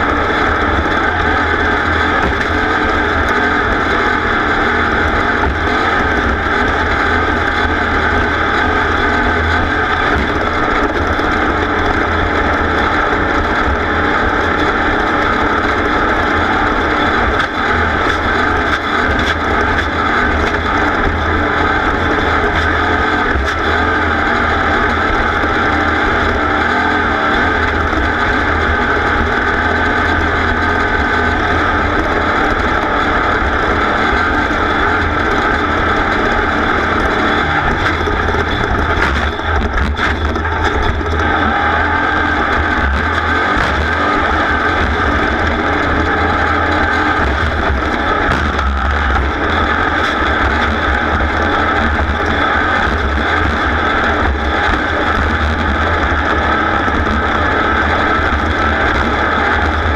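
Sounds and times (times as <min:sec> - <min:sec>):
racing engine at high revs: 0:00.0 - 0:59.9.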